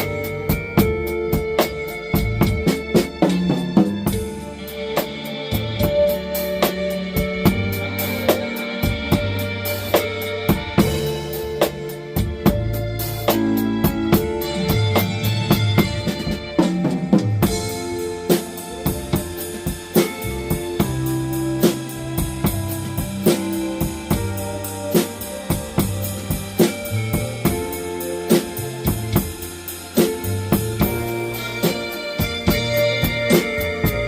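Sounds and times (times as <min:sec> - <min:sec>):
blues backing track bass and guitar: 0:00.0 - 0:34.0
drum kit blues groove: 0:00.0 - 0:34.0.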